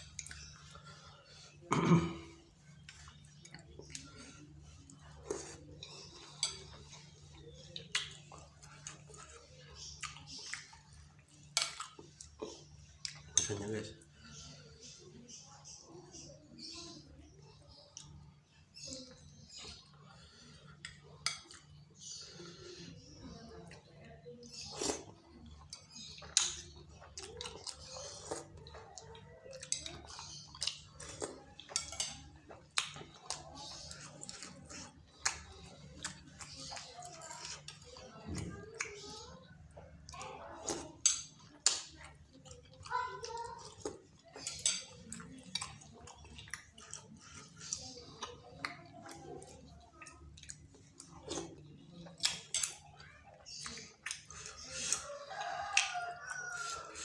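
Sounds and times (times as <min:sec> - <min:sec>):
chewing and slurping: 0:00.0 - 0:57.0.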